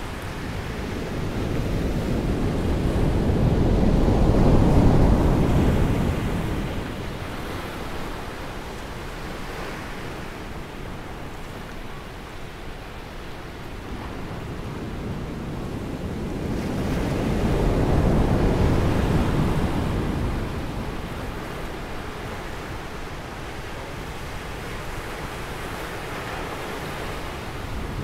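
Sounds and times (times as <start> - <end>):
ocean surf breaking on beach: 0.0 - 28.0.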